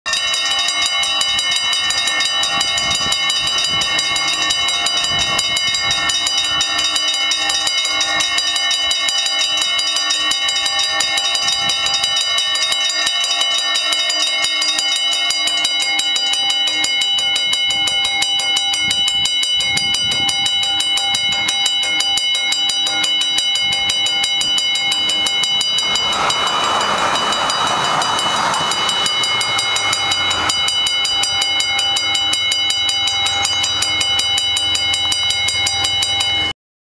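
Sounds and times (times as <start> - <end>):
level crossing bell ringing: 0.0 - 36.6
tram passing: 0.1 - 36.5.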